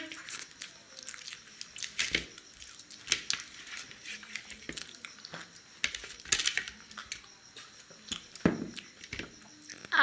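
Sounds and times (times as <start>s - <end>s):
chewing: 0.0s - 9.9s.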